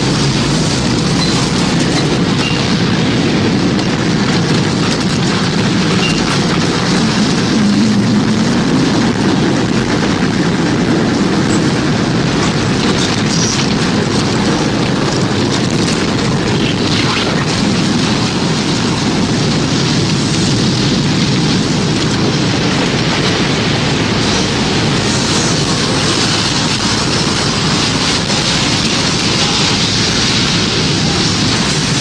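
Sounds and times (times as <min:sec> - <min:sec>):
loud rushing wind: 0:00.0 - 0:32.0.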